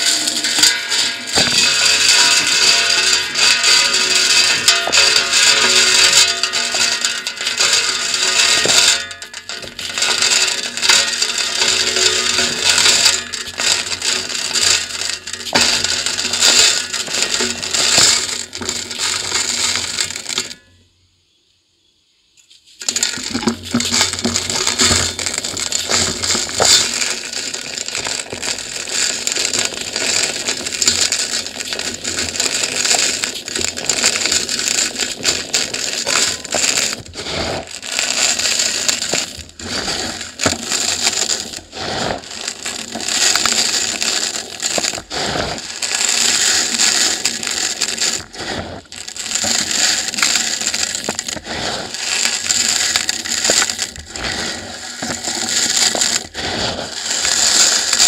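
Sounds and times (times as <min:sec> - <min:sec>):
concrete crumbling into steel bucket: 0:00.0 - 0:20.8, 0:22.8 - 0:58.0.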